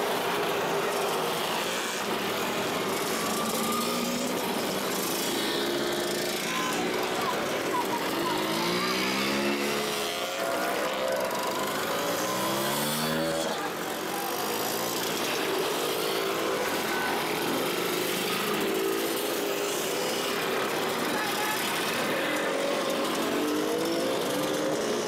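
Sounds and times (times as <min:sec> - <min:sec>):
scooter engines buzzing past: 0:00.0 - 0:25.0.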